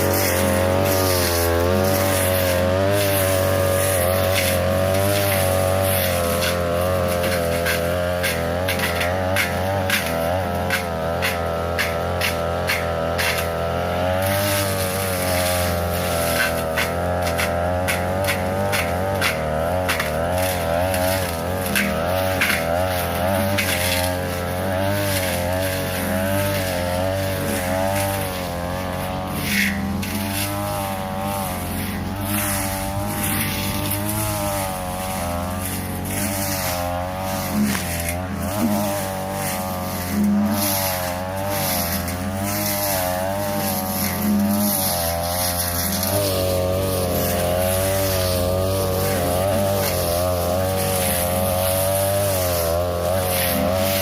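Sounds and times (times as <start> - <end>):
blade striking stems: 0.0 - 54.0
brush cutter engine at high speed: 0.0 - 54.0.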